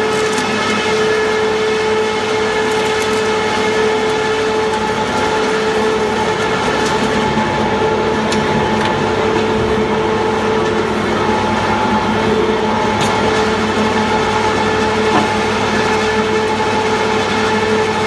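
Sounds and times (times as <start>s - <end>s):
grinder machine hum: 0.0s - 18.0s.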